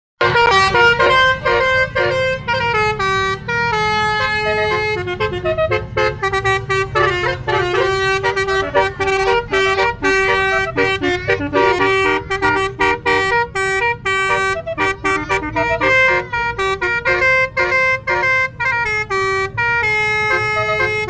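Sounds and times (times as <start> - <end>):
musical air horn tune: 0.2 - 21.0.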